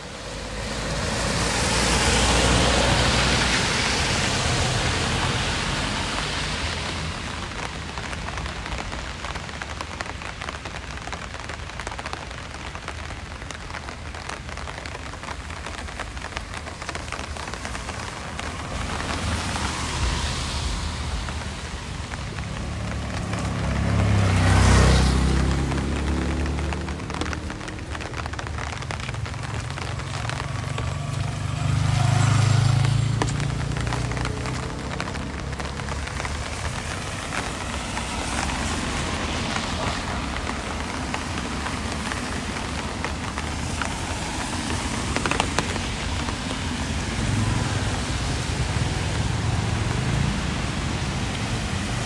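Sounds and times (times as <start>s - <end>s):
rain falling on a street: 0.0s - 52.0s
vehicles passing on wet road: 0.0s - 52.0s.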